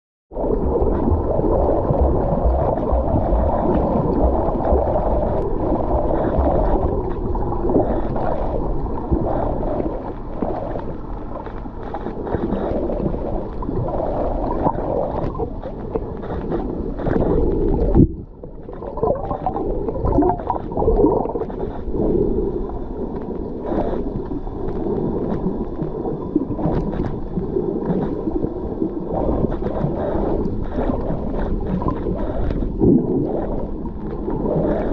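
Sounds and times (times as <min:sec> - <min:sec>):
underwater rumble and gurgle: 0:00.3 - 0:34.9.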